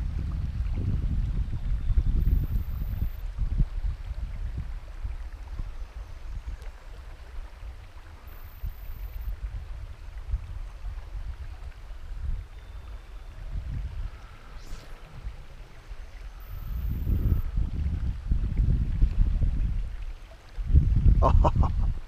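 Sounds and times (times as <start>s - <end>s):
wind on microphone: 0.0s - 22.0s
river water flowing: 2.5s - 20.8s.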